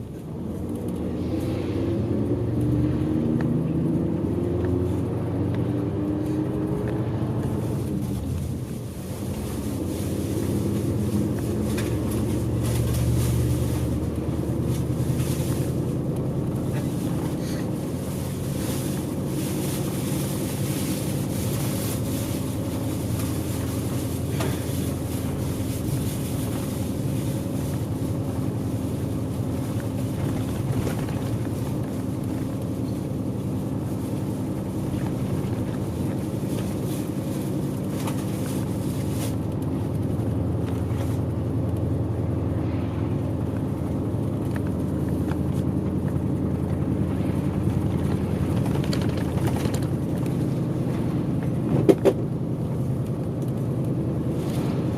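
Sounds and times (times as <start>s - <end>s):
bus engine hum: 0.0s - 54.9s
tyre and road noise: 0.0s - 54.9s.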